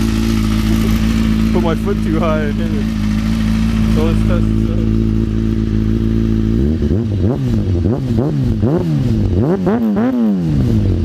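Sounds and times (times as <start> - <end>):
motorcycle engine idling: 0.0 - 11.0
motorcycle engine revving: 0.0 - 11.0.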